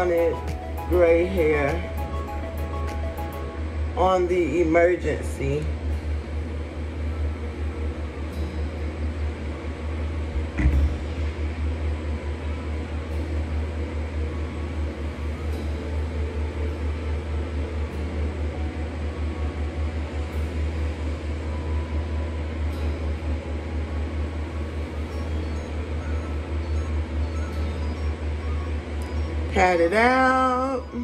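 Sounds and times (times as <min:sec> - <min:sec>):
low machine hum with fluttering pulse: 0:00.0 - 0:31.0.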